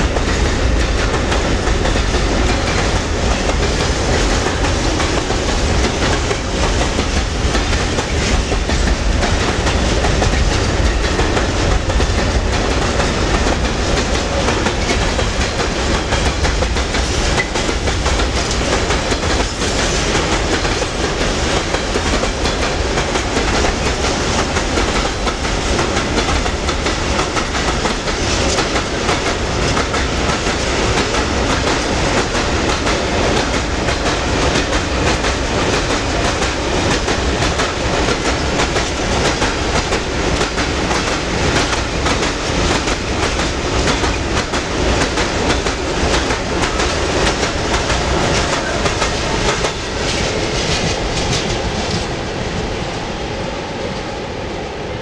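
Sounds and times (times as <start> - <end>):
freight train wheels clattering: 0.0 - 54.2.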